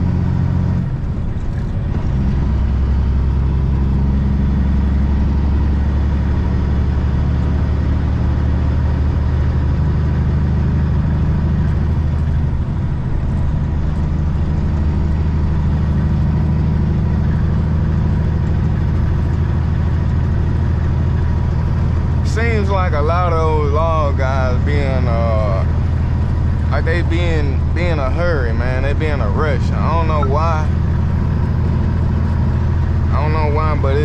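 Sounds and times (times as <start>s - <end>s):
road noise: 0.0s - 34.0s
truck diesel engine running: 0.0s - 34.0s.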